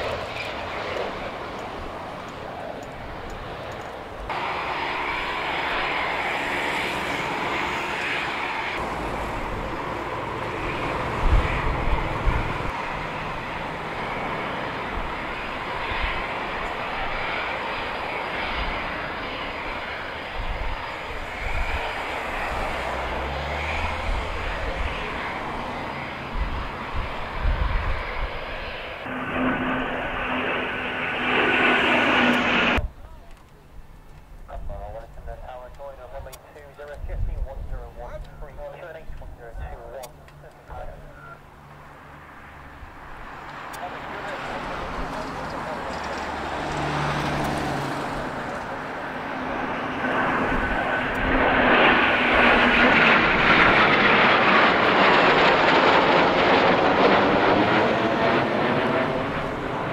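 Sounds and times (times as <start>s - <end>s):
jet engines at takeoff power: 0.0s - 59.9s.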